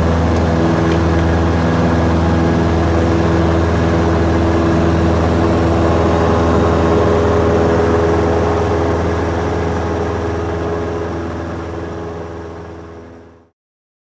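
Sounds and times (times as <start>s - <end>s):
plane engine and propeller droning: 0.0s - 13.5s.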